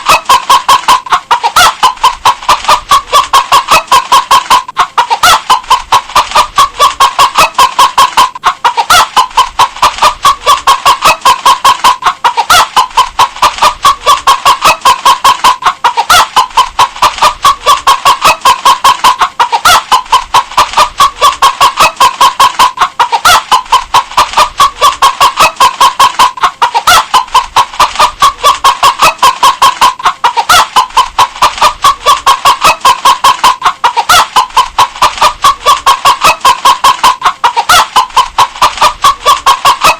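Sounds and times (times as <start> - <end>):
hen clucking: 0.0 - 39.9.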